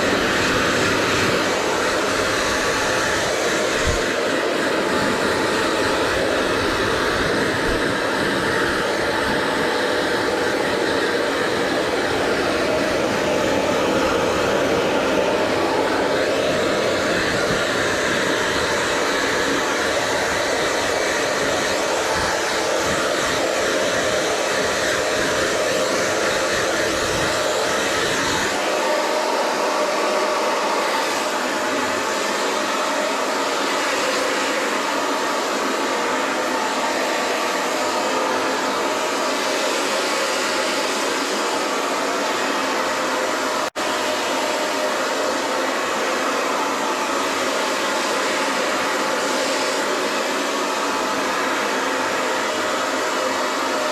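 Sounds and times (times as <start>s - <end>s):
hair dryer blowing: 0.0s - 53.9s.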